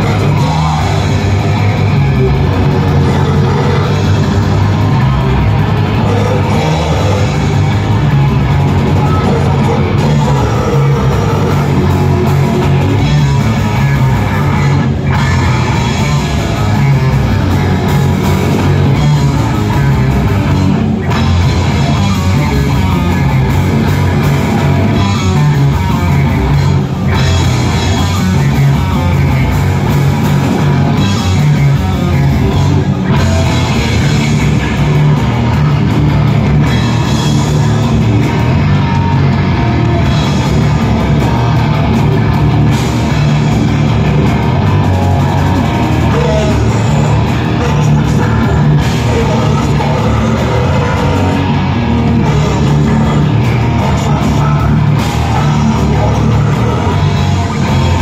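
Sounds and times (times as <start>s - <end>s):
distorted electric guitars: 0.0s - 58.0s
pounding drum kit: 0.0s - 58.0s.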